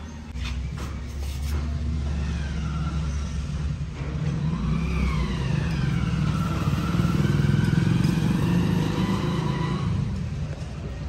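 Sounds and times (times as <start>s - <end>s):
car engine moving off: 0.3s - 11.0s.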